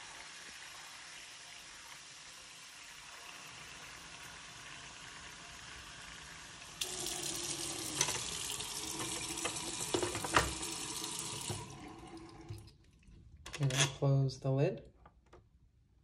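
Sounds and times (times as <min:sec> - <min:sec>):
faucet running into reservoir: 0:00.0 - 0:13.1
water pouring into sink: 0:00.0 - 0:13.3.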